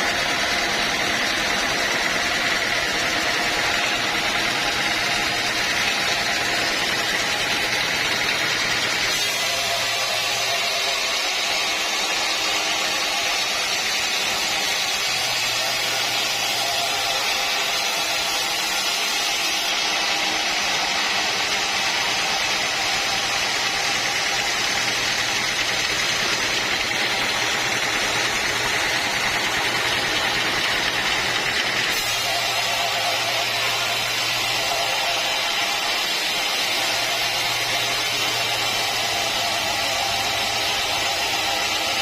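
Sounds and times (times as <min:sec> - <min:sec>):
sawmill machinery running: 0:00.0 - 0:42.0.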